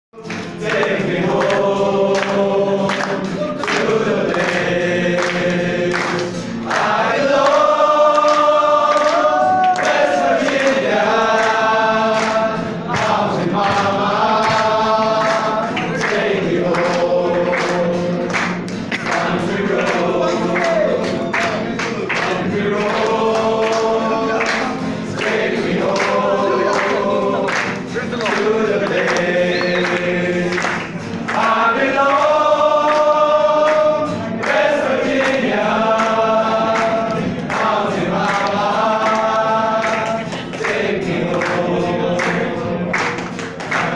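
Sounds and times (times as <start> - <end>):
young men singing together: 0.2 - 43.9.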